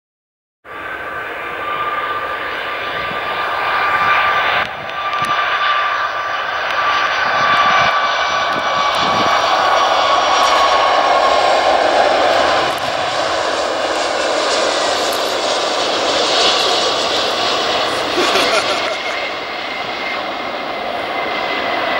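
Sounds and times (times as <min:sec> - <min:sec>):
jet engines roaring: 0:00.7 - 0:21.9.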